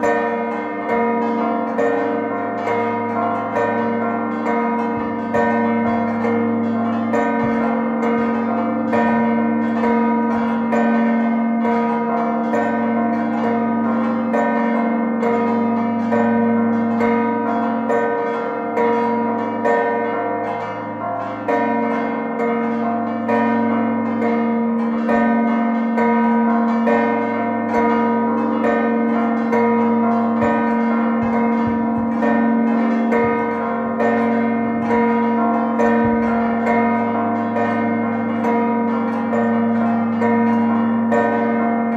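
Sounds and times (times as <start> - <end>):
church bells pealing: 0.0 - 41.9.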